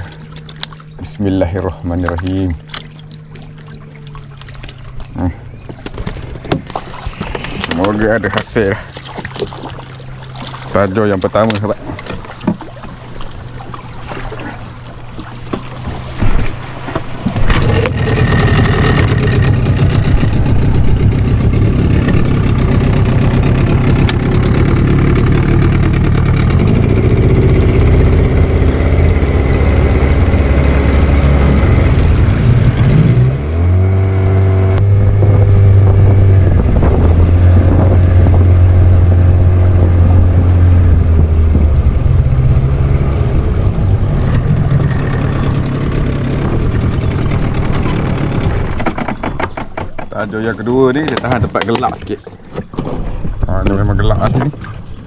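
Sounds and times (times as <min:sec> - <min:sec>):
boat motor running: 0:00.0 - 0:55.0.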